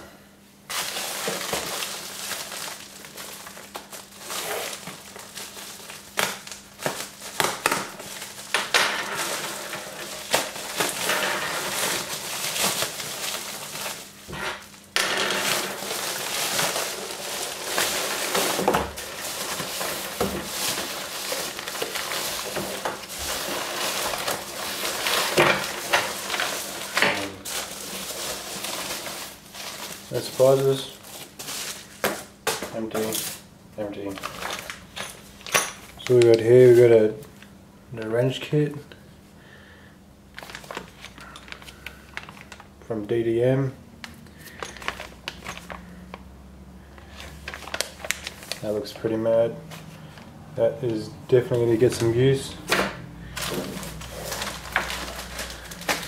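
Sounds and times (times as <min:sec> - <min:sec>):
packaging rustling and crinkling: 0:00.7 - 0:37.5, 0:40.3 - 0:42.7, 0:44.0 - 0:46.2, 0:46.9 - 0:56.0.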